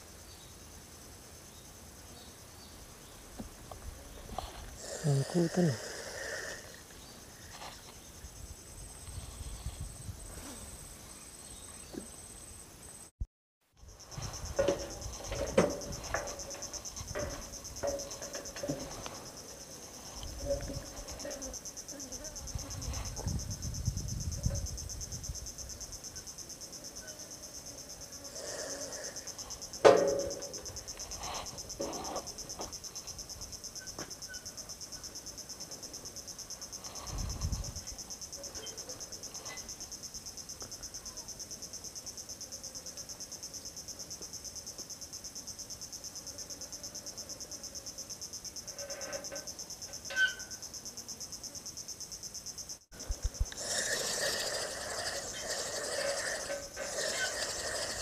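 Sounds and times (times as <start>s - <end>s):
insects buzzing: 0.0s - 13.1s, 13.8s - 58.0s.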